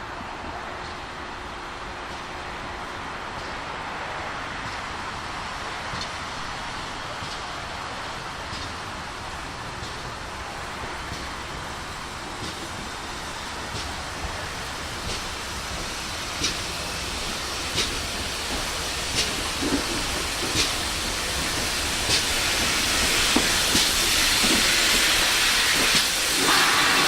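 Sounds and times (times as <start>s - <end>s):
sharp locomotive exhaust beats: 0.8s - 27.0s
steam locomotive hissing: 0.9s - 27.0s.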